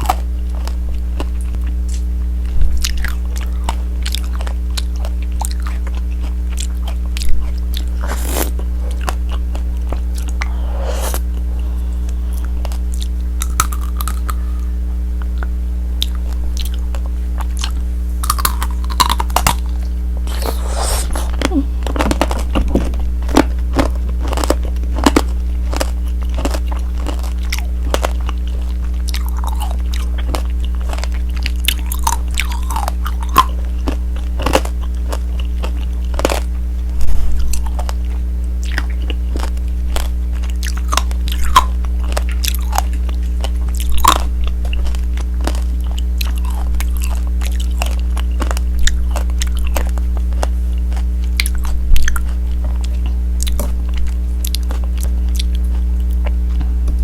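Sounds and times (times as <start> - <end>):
crunching hard candy: 0.0 - 2.1, 2.8 - 56.7
steady low hum: 0.0 - 57.0.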